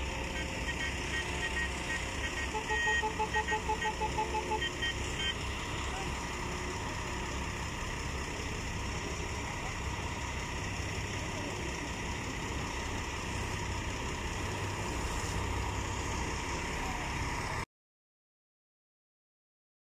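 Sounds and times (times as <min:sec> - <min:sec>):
small boat engine droning: 0:00.0 - 0:17.6
wind: 0:00.0 - 0:17.7.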